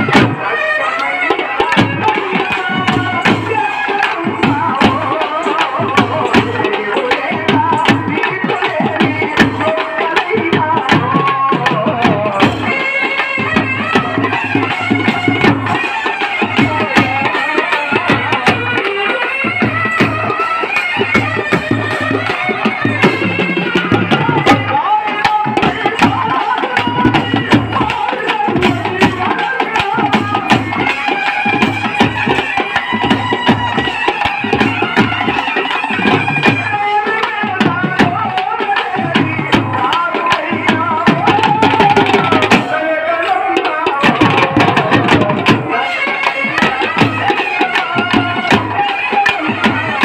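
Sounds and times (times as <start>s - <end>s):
large drum beat: 0.0s - 0.6s, 1.6s - 50.0s
hand drums: 0.0s - 50.0s
man singing into a microphone: 0.0s - 50.0s.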